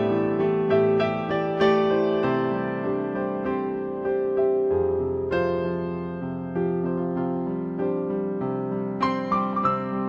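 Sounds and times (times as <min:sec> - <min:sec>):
slow soft keyboard music: 0:00.0 - 0:10.0.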